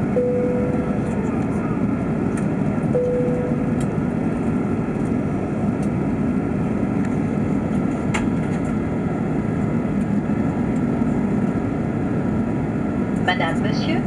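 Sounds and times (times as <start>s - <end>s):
airplane cabin drone: 0.0s - 14.0s.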